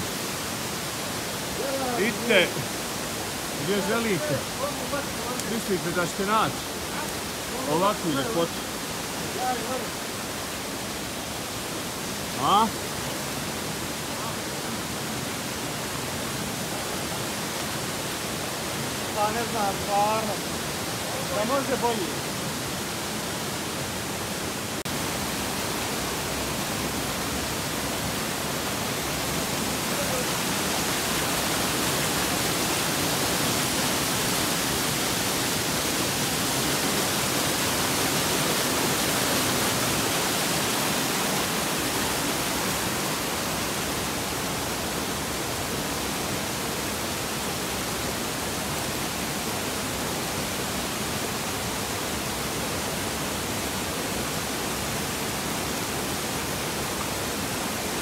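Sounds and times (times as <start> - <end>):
waterfall cascading over rocks: 0.0 - 58.0.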